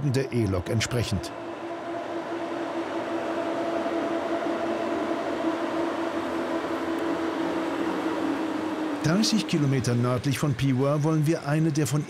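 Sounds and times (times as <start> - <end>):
electric locomotive hum: 0.0 - 12.0.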